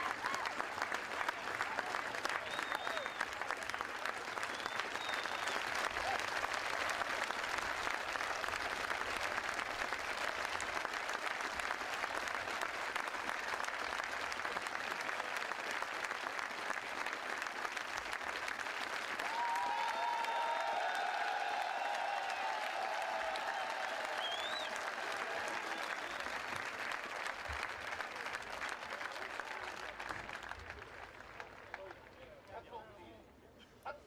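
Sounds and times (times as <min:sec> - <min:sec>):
crowd applauding: 0:00.0 - 0:32.6.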